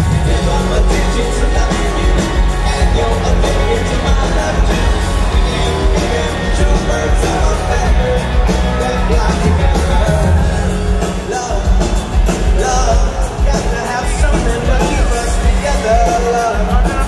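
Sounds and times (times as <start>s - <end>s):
live pop-rock band: 0.0s - 17.0s
person singing lead vocal: 0.0s - 17.0s.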